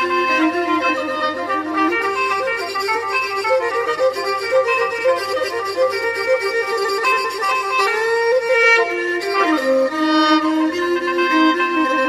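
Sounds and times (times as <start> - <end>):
bowed fiddle melody: 0.0 - 12.0.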